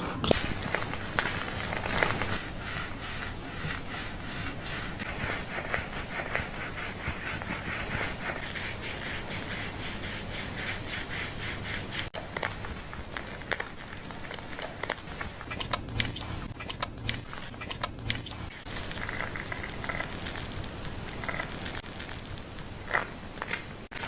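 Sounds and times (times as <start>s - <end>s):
scratching strokes on hair: 0.0s - 16.6s, 18.1s - 24.0s.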